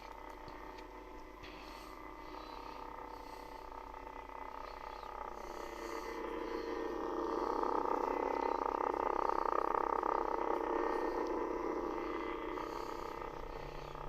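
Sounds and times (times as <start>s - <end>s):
electronic blade hum: 0.0s - 14.0s.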